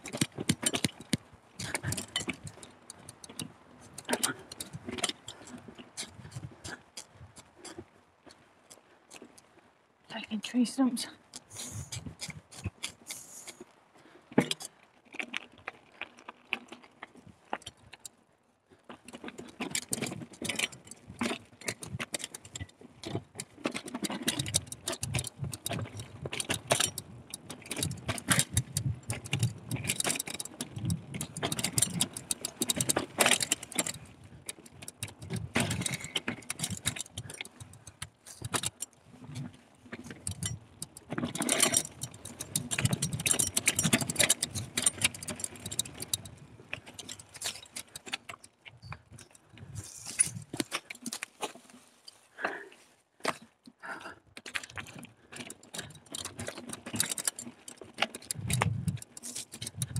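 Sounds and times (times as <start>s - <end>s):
mountain bike rattling on rough trail: 0.0s - 59.9s.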